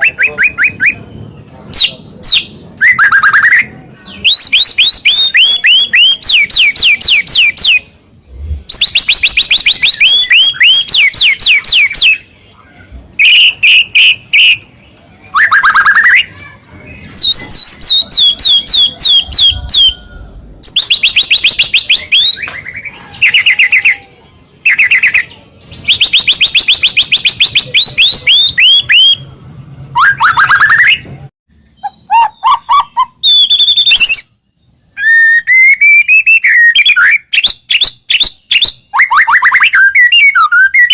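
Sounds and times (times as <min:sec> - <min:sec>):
bird whistled song with trills: 0:00.0 - 0:01.1, 0:01.8 - 0:07.9, 0:08.7 - 0:12.3, 0:13.1 - 0:29.3, 0:30.0 - 0:40.9.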